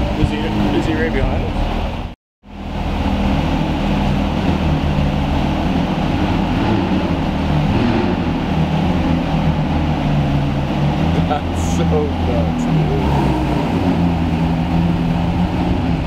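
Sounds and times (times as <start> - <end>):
car engine idling in garage: 1.5 - 16.0.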